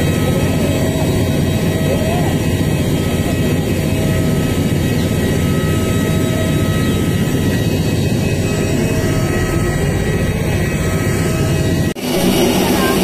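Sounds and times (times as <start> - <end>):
high whining tones: 0.0 - 13.0
jet airliner rush: 0.0 - 13.0.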